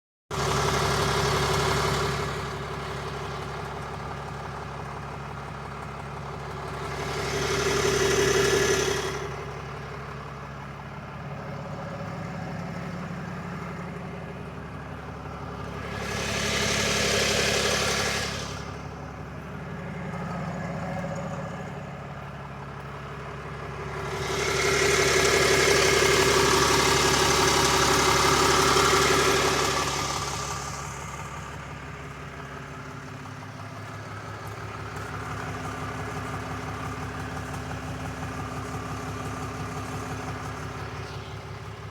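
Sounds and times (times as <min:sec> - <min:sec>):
pickup engine idling: 0:00.3 - 0:41.9.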